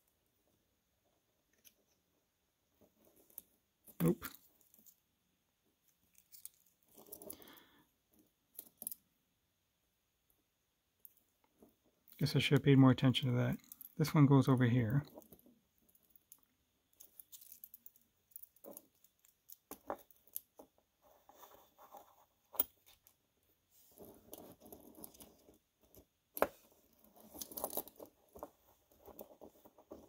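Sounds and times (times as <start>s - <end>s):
soft handling rustle: 2.7s - 5.1s, 5.8s - 9.0s, 11.0s - 30.0s.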